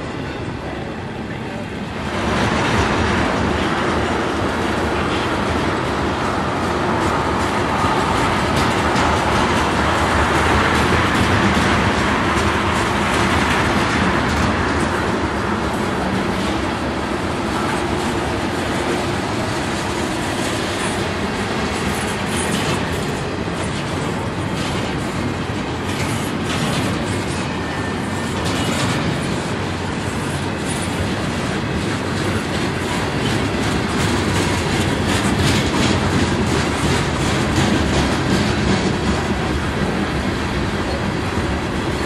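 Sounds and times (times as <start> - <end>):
freight train wheels rumbling: 0.0 - 42.0
wheels clacking over track: 2.2 - 42.0.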